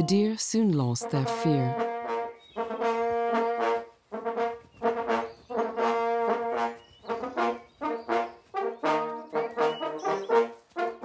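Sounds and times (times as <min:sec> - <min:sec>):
hunting horn fanfare: 0:00.0 - 0:11.0.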